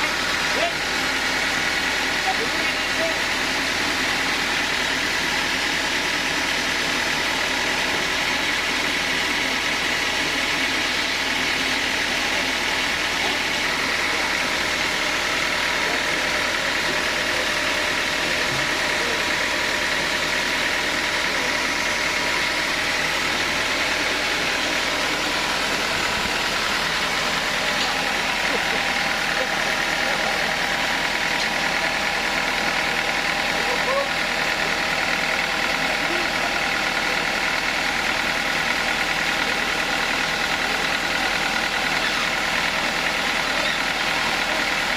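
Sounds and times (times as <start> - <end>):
sawmill machine droning: 0.0 - 44.9.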